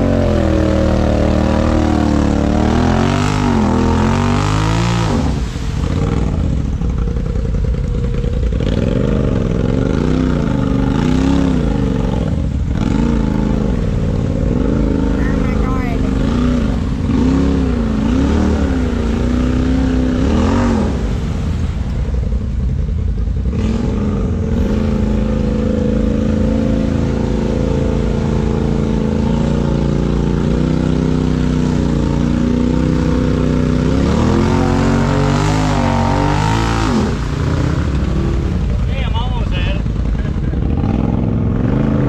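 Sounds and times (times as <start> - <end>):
engine revving: 0.0 - 22.1, 23.0 - 42.0
tyres churning through mud: 0.0 - 42.0.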